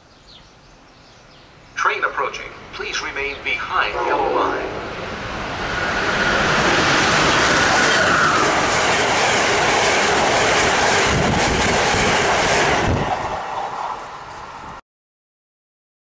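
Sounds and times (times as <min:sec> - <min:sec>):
train passing at speed: 0:01.5 - 0:14.8.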